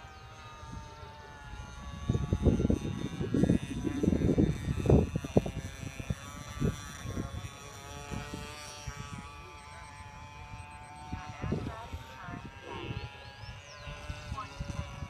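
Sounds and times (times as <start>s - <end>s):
model airplane motor whining: 0.0s - 15.0s
wind buffeting microphone: 0.3s - 15.0s.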